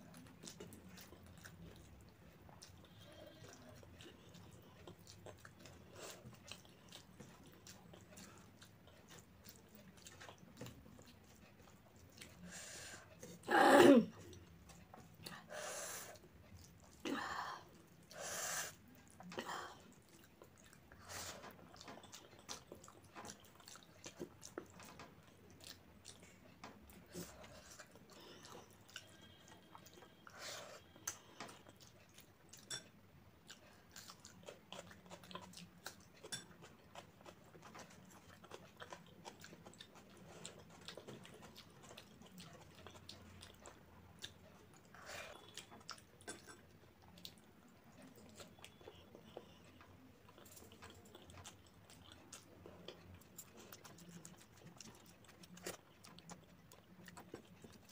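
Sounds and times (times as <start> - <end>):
close-miked chewing: 0.0 - 57.9.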